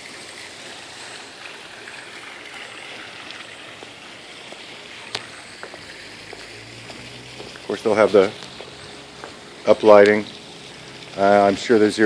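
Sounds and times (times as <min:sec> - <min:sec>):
water splashing into a pool: 0:00.0 - 0:12.0.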